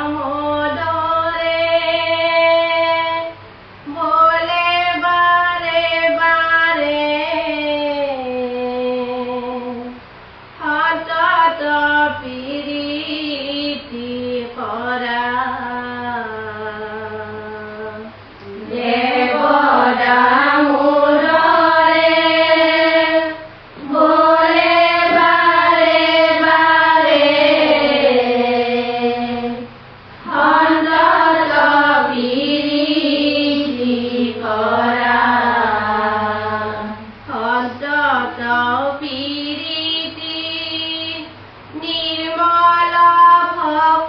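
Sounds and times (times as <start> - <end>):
group singing devotional chant: 0.0 - 10.0, 10.6 - 44.0.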